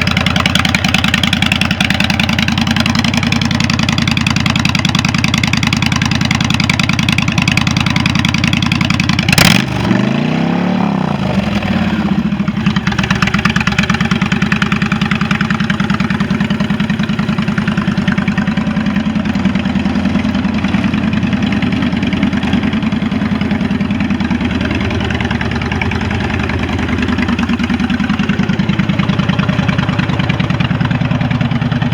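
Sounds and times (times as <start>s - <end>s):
motorcycle engine idling: 0.0s - 31.9s
motorcycle engine revving: 0.0s - 31.9s.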